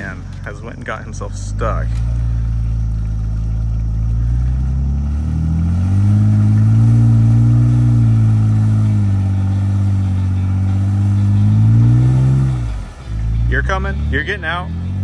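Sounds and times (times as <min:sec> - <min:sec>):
truck engine revving under load: 0:00.0 - 0:15.0.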